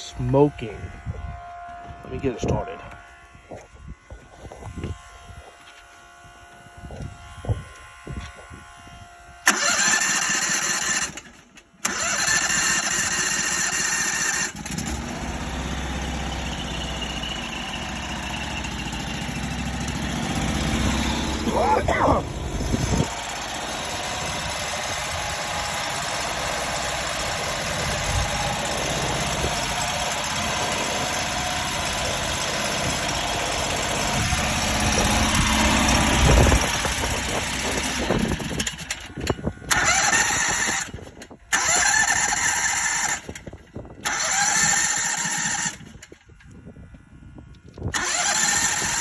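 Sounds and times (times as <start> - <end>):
small gasoline engine running: 4.3 - 46.6, 47.7 - 49.0.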